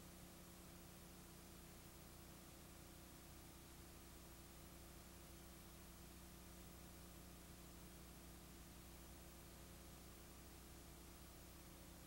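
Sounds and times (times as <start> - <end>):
faint hum with hiss: 0.0 - 12.0.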